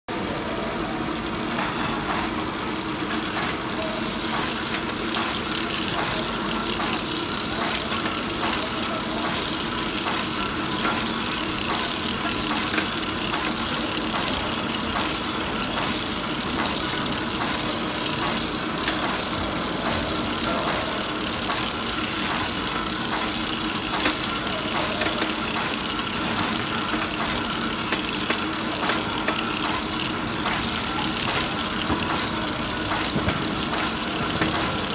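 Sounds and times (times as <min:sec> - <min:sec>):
labeling machine humming: 0:00.1 - 0:34.9
cans clattering on conveyor: 0:01.6 - 0:34.9.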